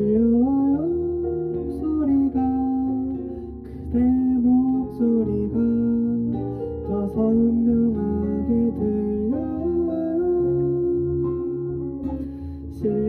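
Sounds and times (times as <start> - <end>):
acoustic guitar song: 0.0 - 13.0
gliding melody notes: 0.0 - 13.0.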